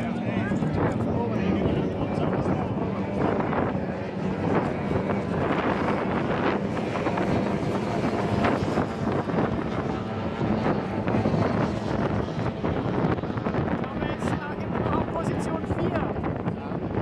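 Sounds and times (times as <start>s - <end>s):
powerboat engines droning: 0.0s - 17.0s
wind buffeting microphone: 0.0s - 17.0s.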